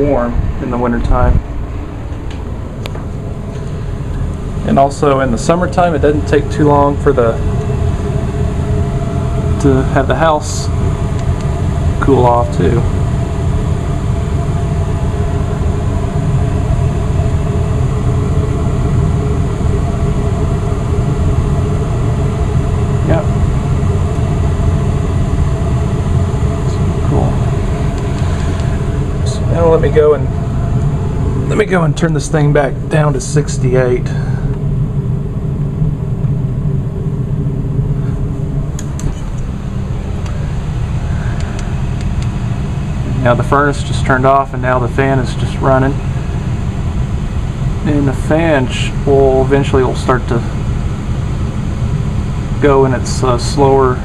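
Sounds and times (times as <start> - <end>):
furnace blower fan running: 0.0 - 54.0.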